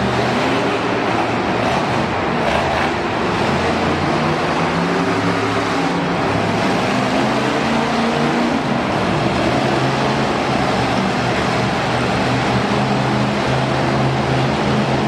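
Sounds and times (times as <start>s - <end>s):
truck engine running loud: 0.0s - 15.0s.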